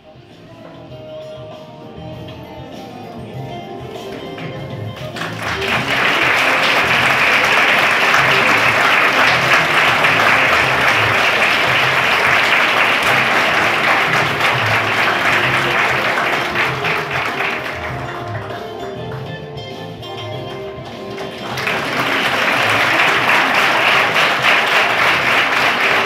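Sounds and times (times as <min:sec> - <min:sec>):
background music: 0:00.0 - 0:26.0
audience applauding: 0:03.9 - 0:19.4, 0:20.5 - 0:26.0.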